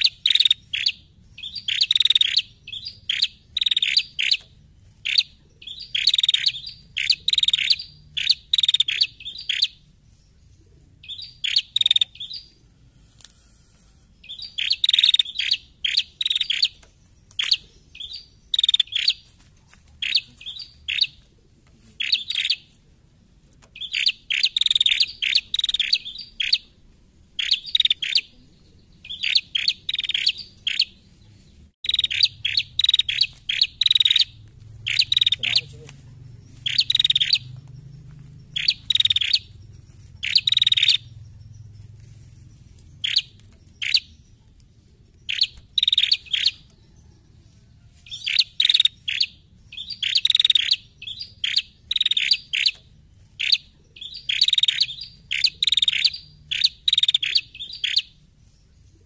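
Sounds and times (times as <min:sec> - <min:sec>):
bird chattering chirps: 0:00.0 - 0:12.6, 0:14.2 - 0:19.3, 0:20.0 - 0:21.2, 0:22.0 - 0:22.7, 0:23.8 - 0:26.7, 0:27.4 - 0:31.0, 0:31.8 - 0:47.2, 0:48.1 - 0:58.2.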